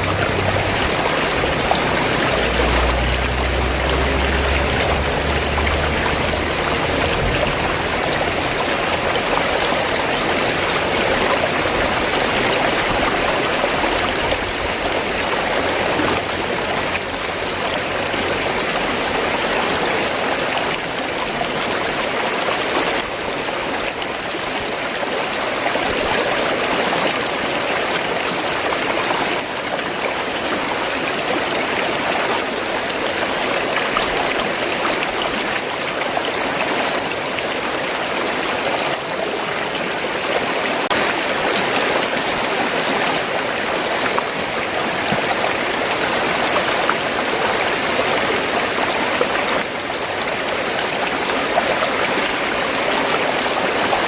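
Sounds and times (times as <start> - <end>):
stream water gurgling: 0.0 - 54.0.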